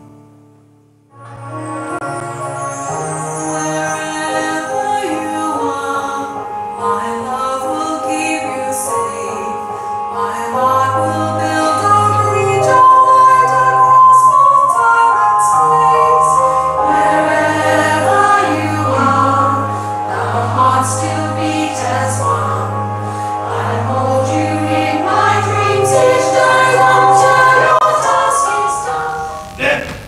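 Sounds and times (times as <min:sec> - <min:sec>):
musical accompaniment with bass: 0:00.0 - 0:30.0
choir voices: 0:01.3 - 0:30.0
woman singing long notes: 0:04.0 - 0:29.5.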